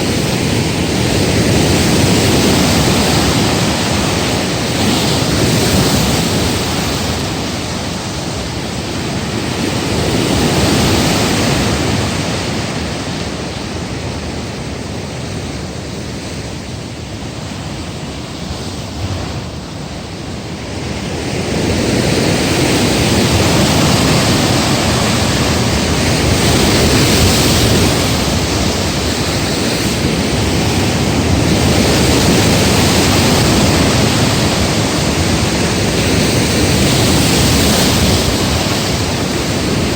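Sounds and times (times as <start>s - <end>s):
heavy surf breaking on breakwater: 0.0s - 39.9s
wind: 0.0s - 39.9s.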